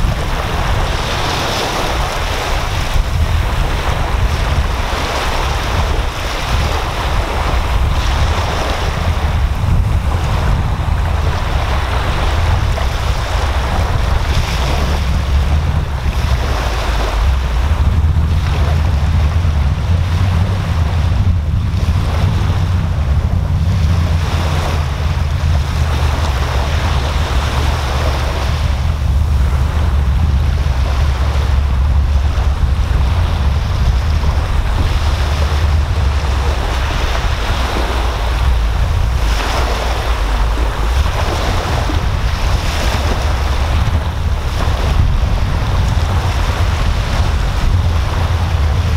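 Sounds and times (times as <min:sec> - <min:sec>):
waves breaking on beach: 0:00.0 - 0:48.9
wind buffeting microphone: 0:00.0 - 0:48.9.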